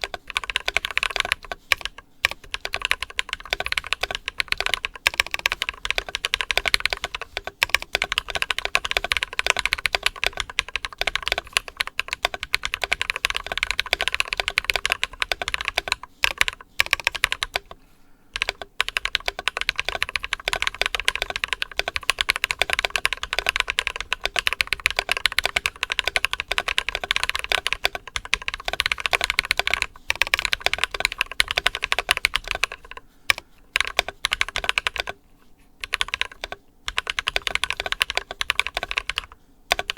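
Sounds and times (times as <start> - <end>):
mechanical keyboard typing: 0.0 - 35.2, 35.8 - 39.9.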